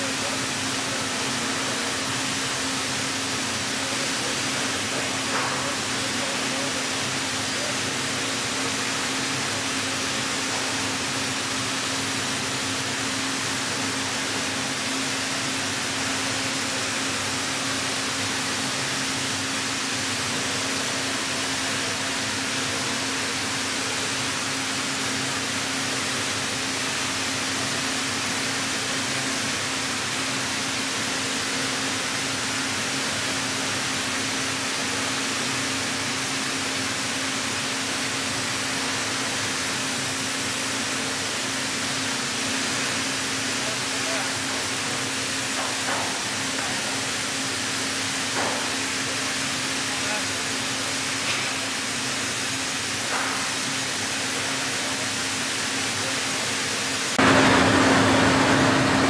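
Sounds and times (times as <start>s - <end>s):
plate bending machine humming: 0.0s - 59.0s.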